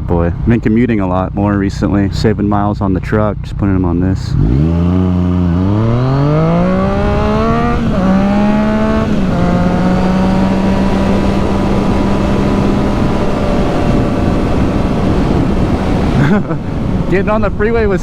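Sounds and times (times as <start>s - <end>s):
motorcycle engine accelerating: 0.0s - 18.0s
wind noise: 0.0s - 18.0s.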